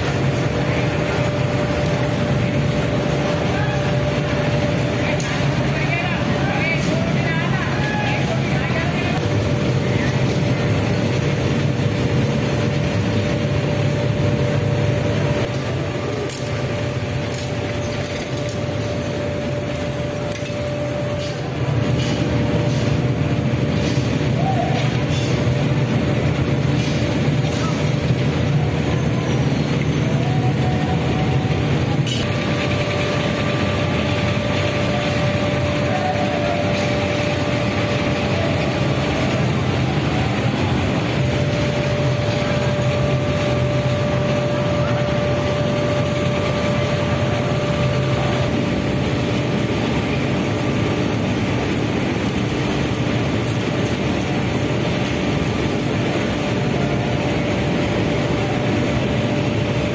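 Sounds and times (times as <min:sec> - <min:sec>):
factory machinery din: 0:00.0 - 0:59.9.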